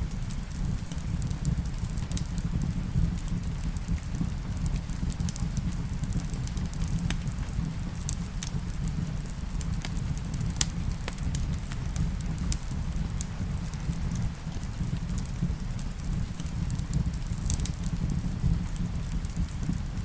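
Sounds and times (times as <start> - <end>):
rain hissing: 0.0 - 20.0
wood fire crackling: 0.0 - 20.0.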